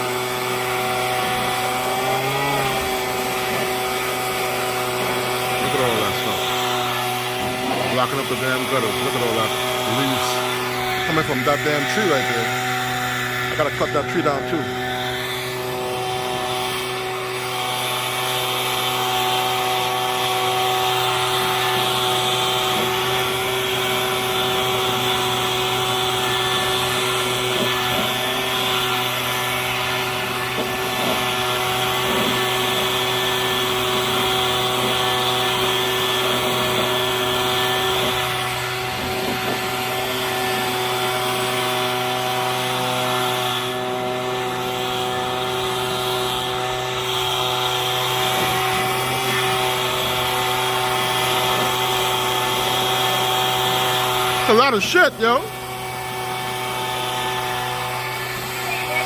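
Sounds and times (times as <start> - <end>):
leaf blower running: 0.0 - 59.0.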